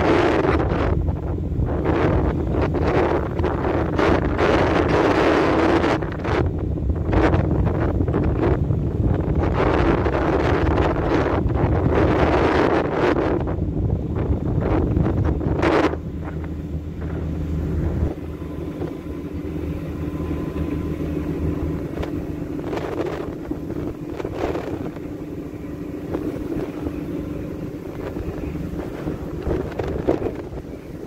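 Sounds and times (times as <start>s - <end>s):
ship engine humming: 0.0s - 31.0s
wind buffeting microphone: 0.0s - 31.0s.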